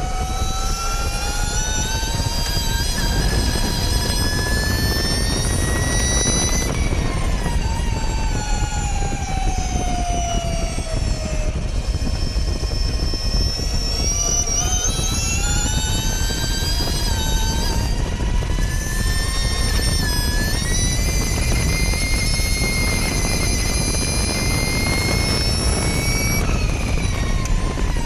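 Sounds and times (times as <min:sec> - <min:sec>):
electric motor whine: 0:00.0 - 0:28.0
wind and road noise: 0:00.0 - 0:28.0.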